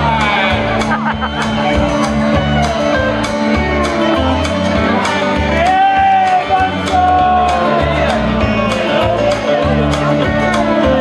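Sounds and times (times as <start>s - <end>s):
band music with guitar and drums: 0.0s - 11.0s.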